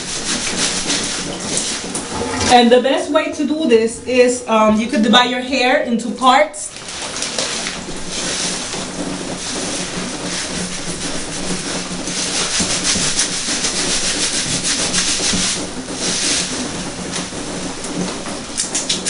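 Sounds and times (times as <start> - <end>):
hands scrubbing wet hair: 0.0 - 5.5, 6.2 - 19.0
steady low hum: 0.0 - 19.0.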